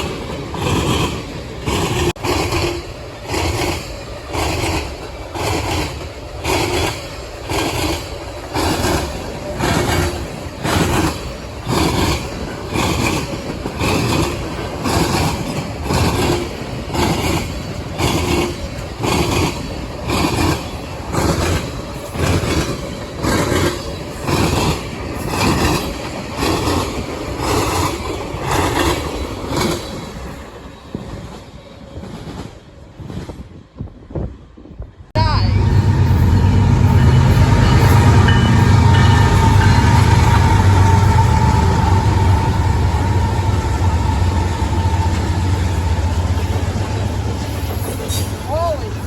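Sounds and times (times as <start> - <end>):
train wheels clacking on rail joints: 0.0 - 34.3, 35.9 - 49.0.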